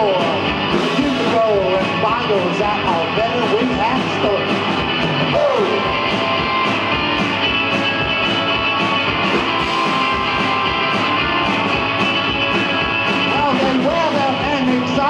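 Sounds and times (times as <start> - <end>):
electric guitar: 0.0 - 15.0
rock band playing: 0.0 - 15.0.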